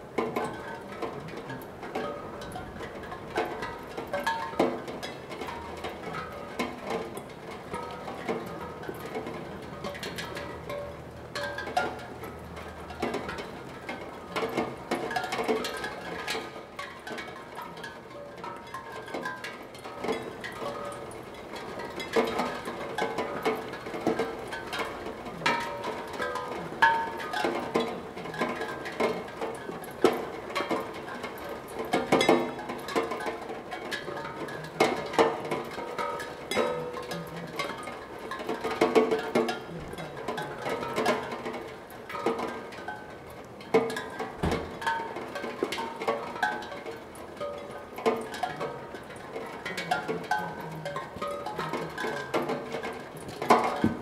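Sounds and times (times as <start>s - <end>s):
light rain patter: 0.0s - 54.0s
raindrops ringing steel drum: 0.0s - 54.0s.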